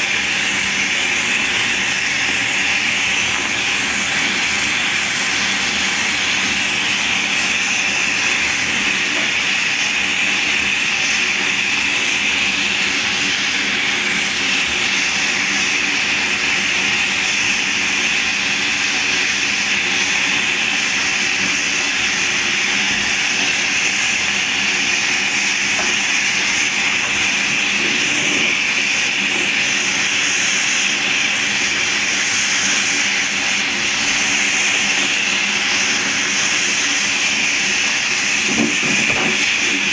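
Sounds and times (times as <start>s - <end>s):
water running into a bathtub: 0.0s - 39.9s.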